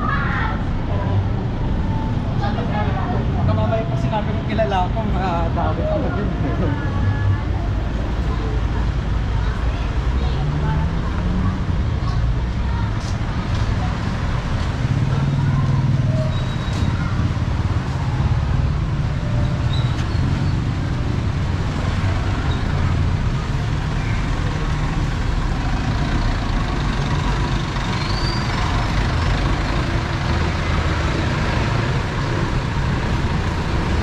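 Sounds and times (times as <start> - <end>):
low rumble of vehicle engines: 0.0 - 34.0.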